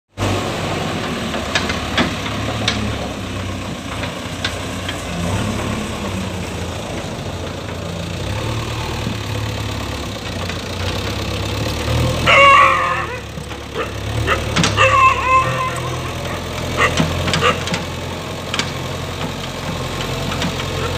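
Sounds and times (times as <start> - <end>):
diesel engine running: 0.1 - 20.9.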